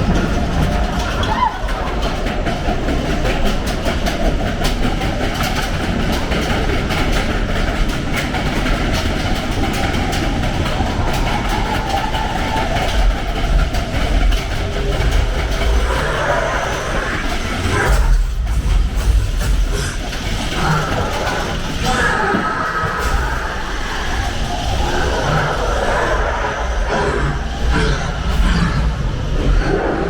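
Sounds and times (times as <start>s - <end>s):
clacking and rattling: 0.0s - 30.0s
roller coaster rumbling on track: 0.0s - 30.0s.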